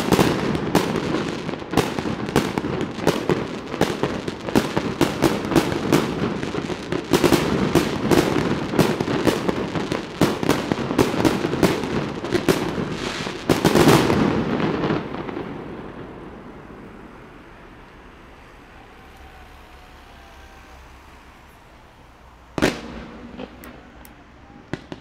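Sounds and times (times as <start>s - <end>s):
fireworks bangs: 0.0s - 25.0s
fireworks crackling: 0.0s - 25.0s
low steady hiss: 0.0s - 25.0s.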